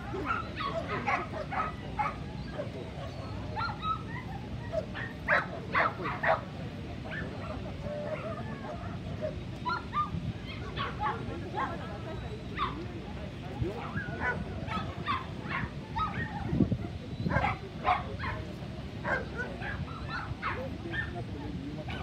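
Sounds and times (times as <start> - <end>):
dogs barking and yipping: 0.0 - 12.8, 13.6 - 22.0
low background noise: 0.0 - 22.0.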